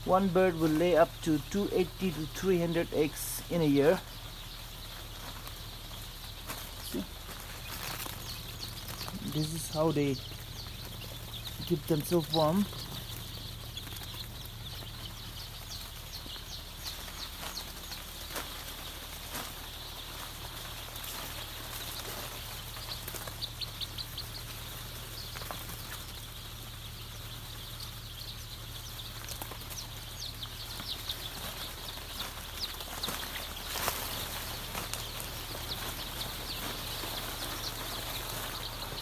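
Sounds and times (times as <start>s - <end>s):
chicks peeping: 0.0s - 39.0s.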